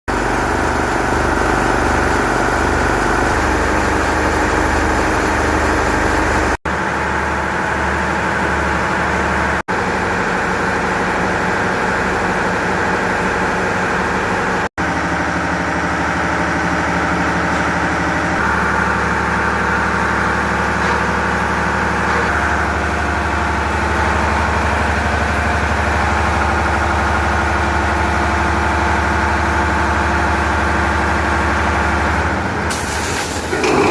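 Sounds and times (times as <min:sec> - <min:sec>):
marine diesel engine running: 0:00.1 - 0:33.9.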